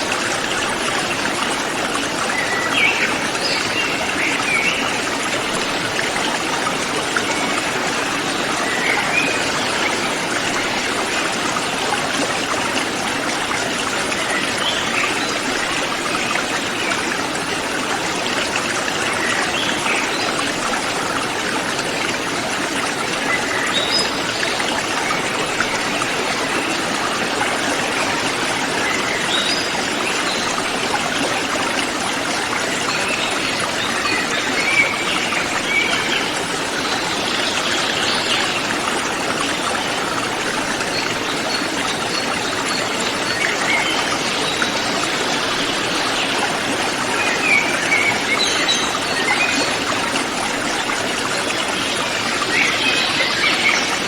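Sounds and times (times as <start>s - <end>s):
mountain river flowing: 0.0s - 54.0s.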